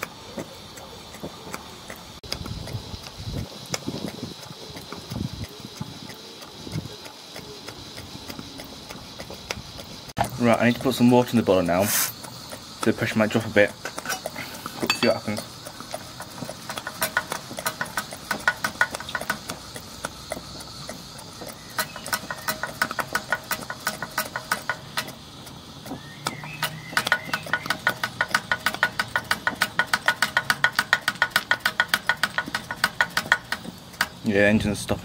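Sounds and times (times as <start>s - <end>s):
steam engine beats and clicks: 0.0s - 35.0s.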